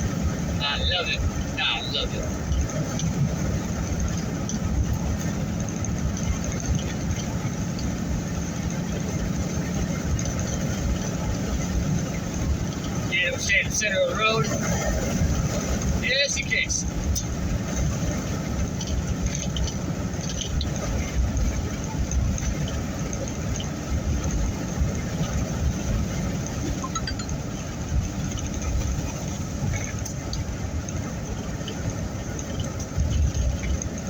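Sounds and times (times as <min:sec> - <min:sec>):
truck engine and road rumble: 0:00.0 - 0:34.0
faint ticks and rattles: 0:01.2 - 0:34.0.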